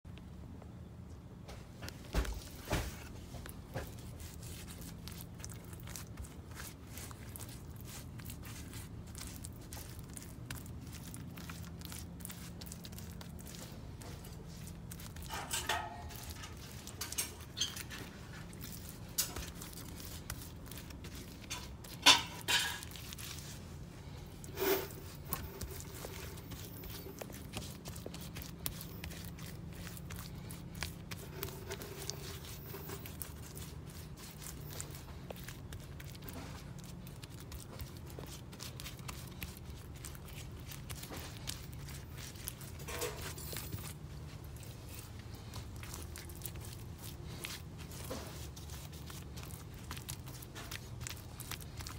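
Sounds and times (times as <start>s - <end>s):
steady low hum: 0.1s - 51.9s.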